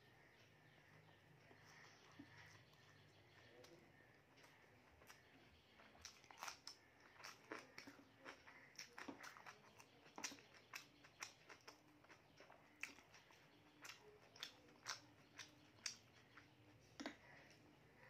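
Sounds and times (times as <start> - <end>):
person chewing food: 0.2 - 18.0.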